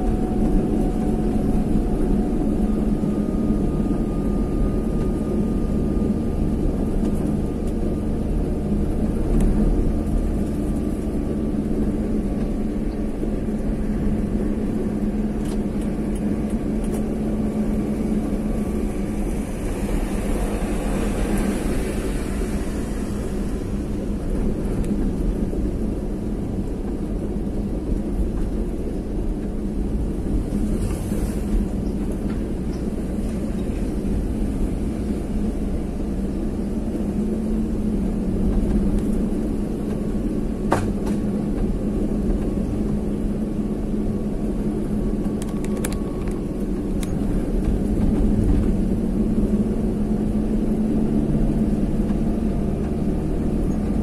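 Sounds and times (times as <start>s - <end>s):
road noise: 0.0s - 54.0s
vehicle engine hum: 0.0s - 54.0s.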